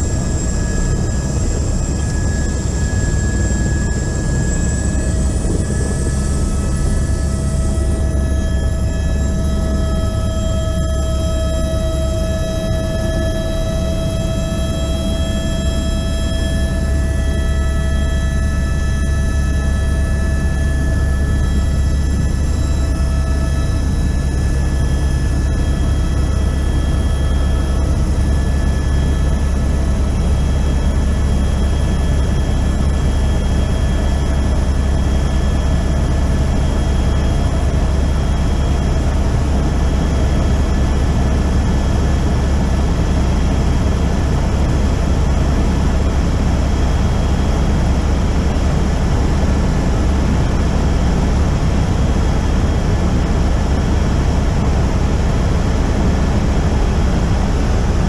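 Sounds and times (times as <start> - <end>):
helicopter cabin turbine and rotor drone: 0.0 - 58.0.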